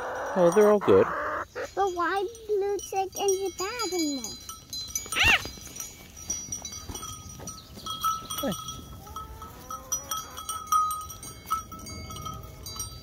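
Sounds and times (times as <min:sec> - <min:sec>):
bell chiming: 0:00.0 - 0:01.0, 0:01.8 - 0:13.0.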